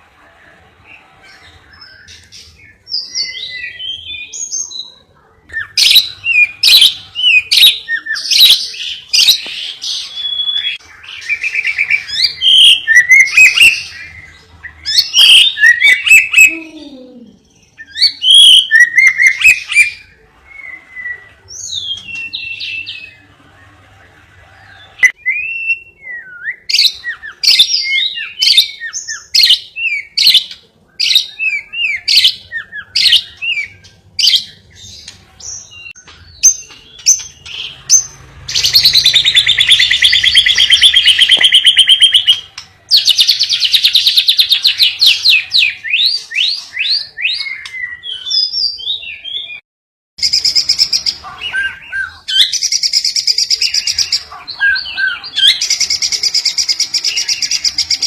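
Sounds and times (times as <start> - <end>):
lovebird singing chirps and trills: 0.8 - 49.6, 50.2 - 58.0.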